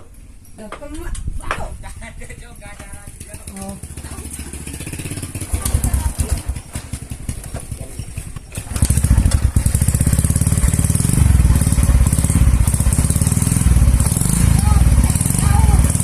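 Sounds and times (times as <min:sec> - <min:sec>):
motorcycle engine revving: 0:02.9 - 0:16.0.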